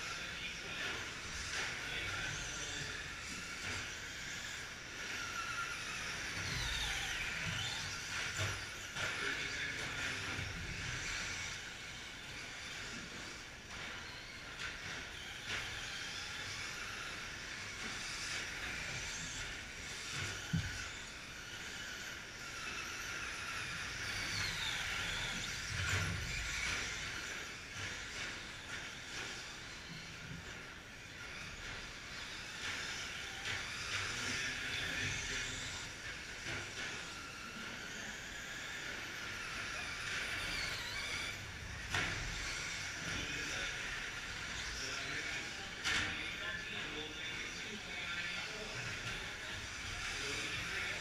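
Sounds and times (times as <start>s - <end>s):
rc truck motor whine: 0.0s - 51.0s.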